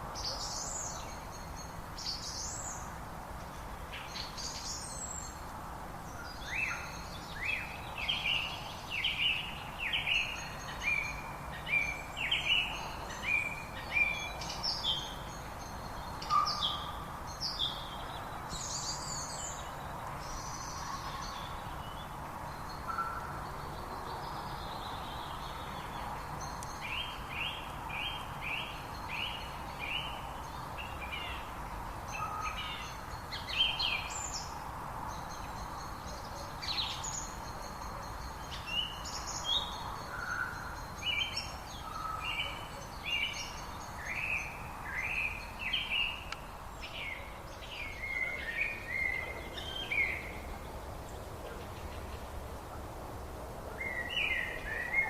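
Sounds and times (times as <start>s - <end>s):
outdoor background hiss: 0.0s - 55.0s
songbirds chirping: 0.0s - 55.0s.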